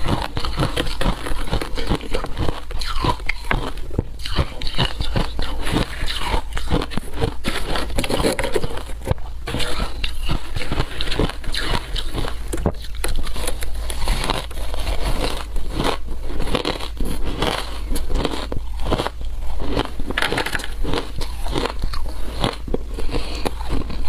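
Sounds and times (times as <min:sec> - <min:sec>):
ice being chewed crunching: 0:00.0 - 0:24.0.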